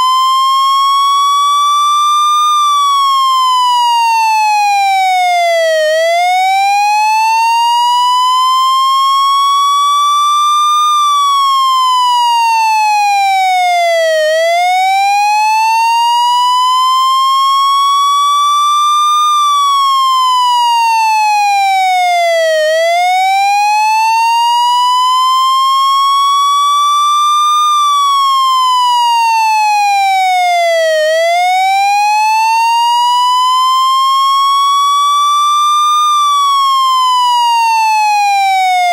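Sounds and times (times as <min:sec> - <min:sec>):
fire engine siren wailing: 0:00.0 - 0:38.9.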